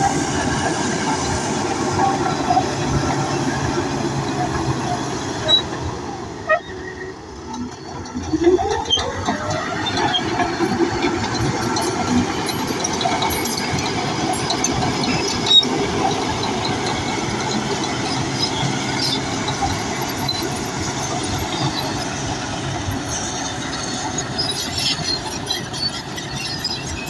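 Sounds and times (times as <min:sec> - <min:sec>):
bulldozer diesel engine: 0:00.0 - 0:27.0
steel tracks squeaking and clanking: 0:00.0 - 0:27.0.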